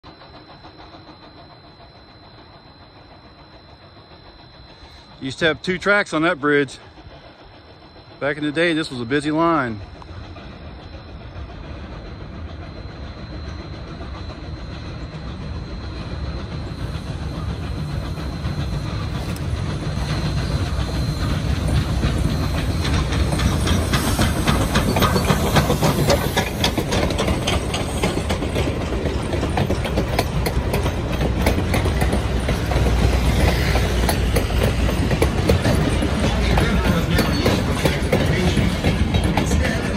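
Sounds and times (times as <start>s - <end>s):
steam locomotive working hard: 0.0s - 39.9s
wheels clattering over rail joints: 4.7s - 39.9s.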